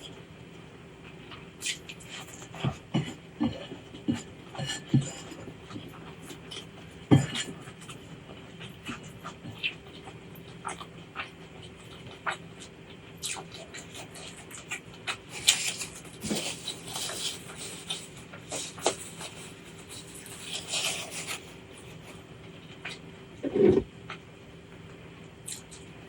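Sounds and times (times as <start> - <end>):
faint steady hum: 0.0 - 26.0
crunchy chewing: 1.0 - 24.3, 25.4 - 26.0
wet chewing with mouth clicks: 1.0 - 24.3, 25.4 - 26.0.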